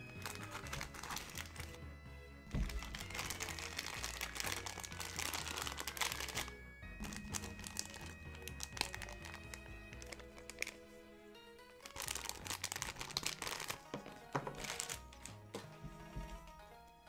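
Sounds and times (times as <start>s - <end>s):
plastic bag crinkling: 0.0s - 1.8s, 2.6s - 10.9s, 11.7s - 15.4s
background music: 0.0s - 17.0s.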